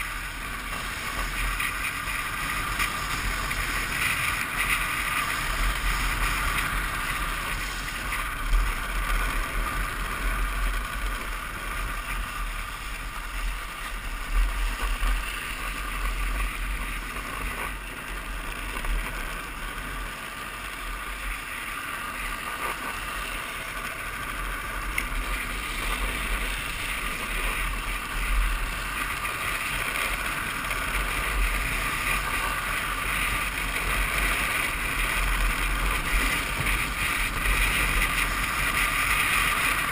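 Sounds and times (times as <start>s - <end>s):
plastic wheels hissing on asphalt: 0.0s - 39.9s.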